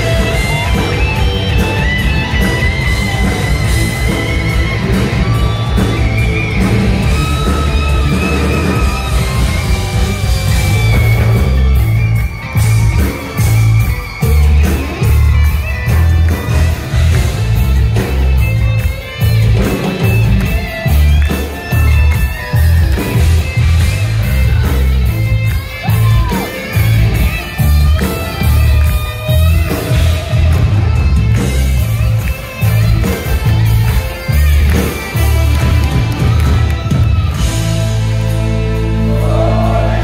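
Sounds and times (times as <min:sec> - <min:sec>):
electric guitar lines: 0:00.0 - 0:40.0
heavy metal band playing live: 0:00.0 - 0:40.0.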